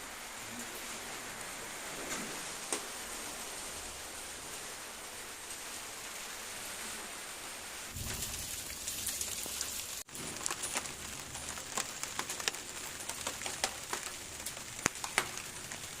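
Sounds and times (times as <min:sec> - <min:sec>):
raindrops ticking on surfaces: 0:00.0 - 0:16.0
steady rain falling: 0:00.0 - 0:16.0.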